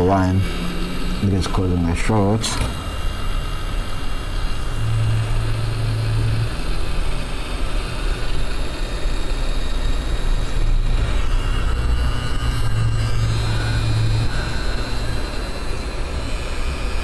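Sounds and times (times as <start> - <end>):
hot air blower rushing: 0.0 - 17.0
low hum: 0.0 - 17.0.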